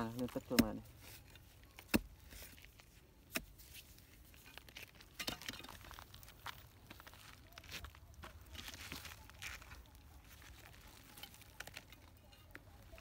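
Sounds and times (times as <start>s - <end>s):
clods crumbling and scraping: 0.0s - 13.0s.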